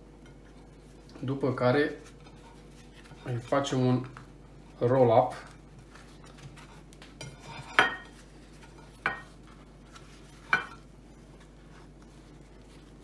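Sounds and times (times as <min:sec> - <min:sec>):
flatbread wrap rustling: 0:00.0 - 0:13.0.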